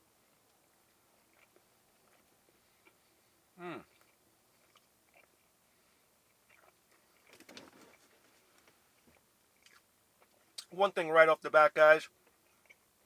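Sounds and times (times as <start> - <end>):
soft chewing: 0.0 - 10.7, 12.1 - 13.0.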